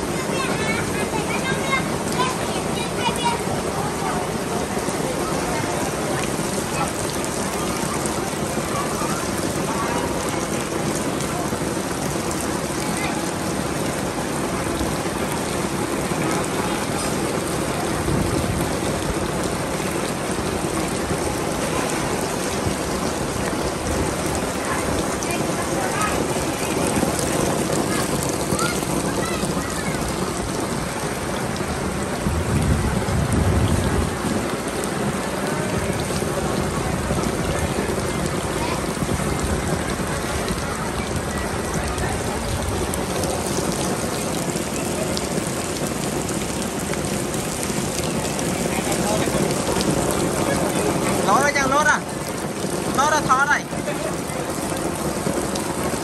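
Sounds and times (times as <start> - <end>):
heavy rain on floodwater: 0.0 - 56.0.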